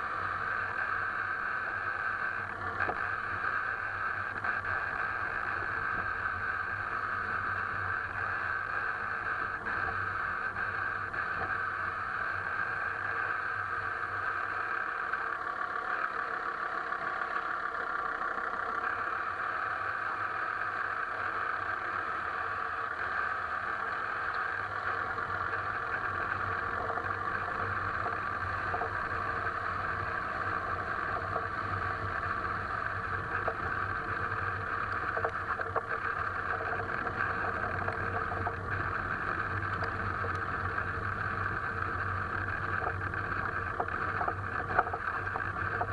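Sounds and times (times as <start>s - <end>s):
car road noise: 0.0s - 45.9s.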